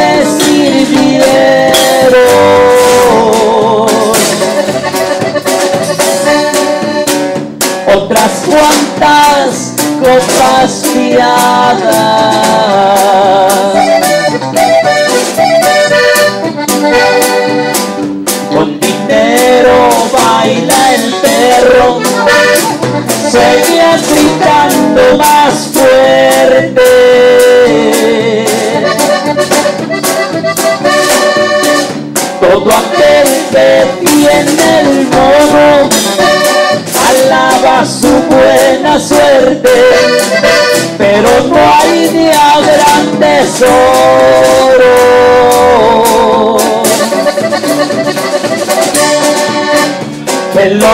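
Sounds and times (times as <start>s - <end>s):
accordion melody: 0.0s - 50.9s
drum kit dance beat: 0.0s - 50.9s
keyboard: 0.0s - 50.9s.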